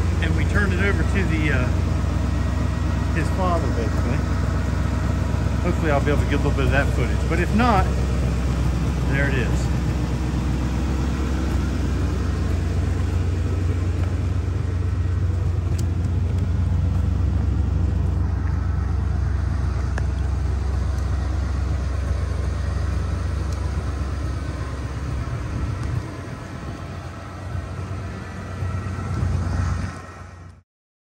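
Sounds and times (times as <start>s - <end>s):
vehicle engine idling: 0.0s - 30.6s.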